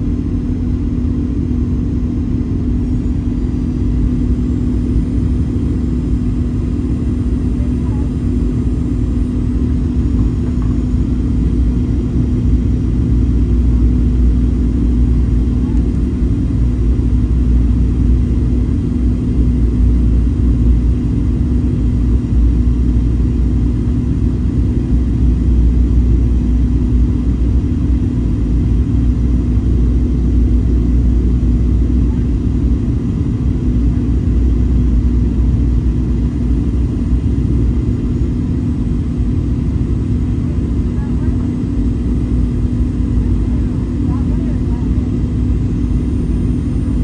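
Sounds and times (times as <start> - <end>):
jet engine and airflow rumble: 0.0 - 47.0
steady cabin hum: 0.0 - 47.0.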